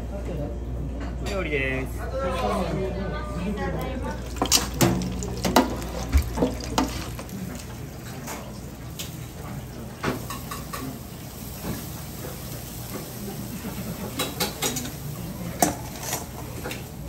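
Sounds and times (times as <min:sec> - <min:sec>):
kitchen background noise: 0:00.0 - 0:17.0.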